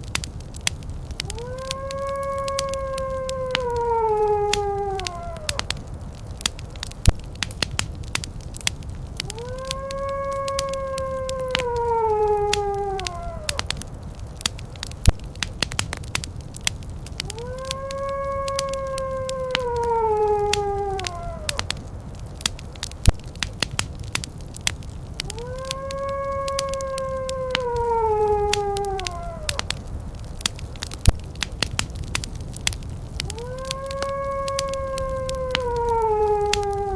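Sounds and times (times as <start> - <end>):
wood fire crackling: 0.0 - 36.9
long howls: 0.1 - 36.9.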